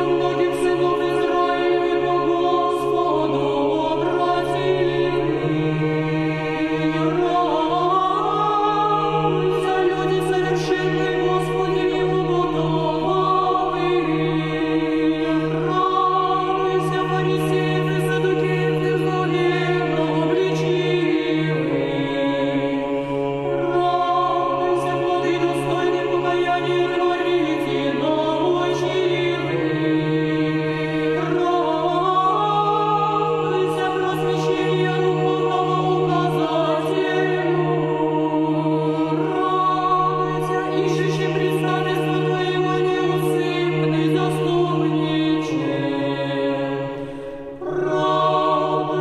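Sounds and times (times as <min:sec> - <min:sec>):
choir singing church chant: 0:00.0 - 0:49.0.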